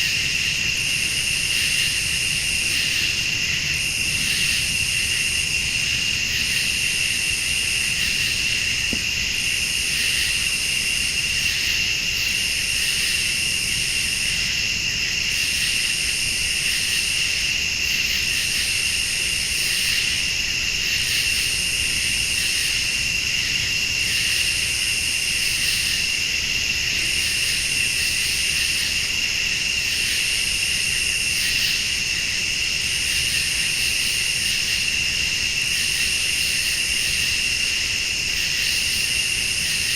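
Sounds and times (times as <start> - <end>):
crickets trilling: 0.0 - 39.9
high insect buzz: 0.0 - 39.9.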